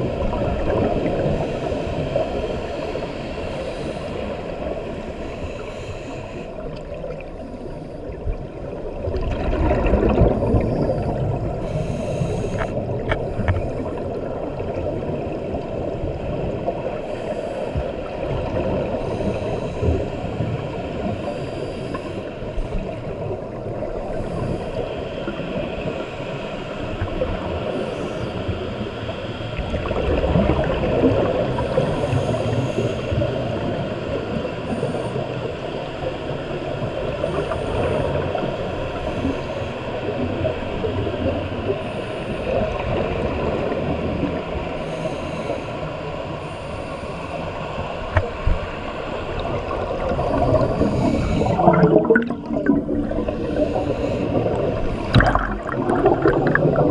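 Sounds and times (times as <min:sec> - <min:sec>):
underwater bubbling and gurgling: 0:00.0 - 0:56.9.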